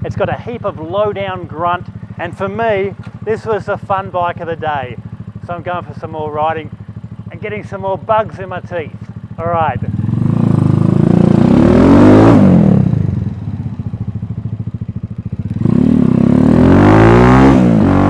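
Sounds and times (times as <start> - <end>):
motorcycle accelerating: 0.0 - 18.0.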